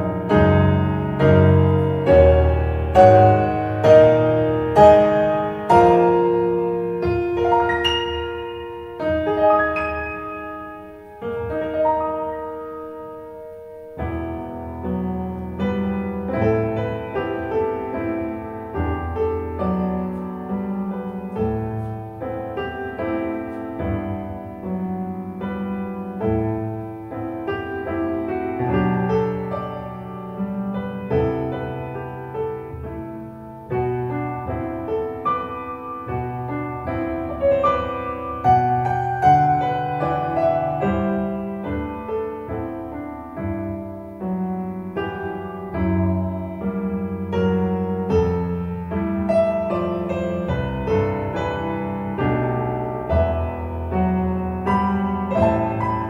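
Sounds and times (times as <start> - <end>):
piano music through speakers: 0.0 - 56.0.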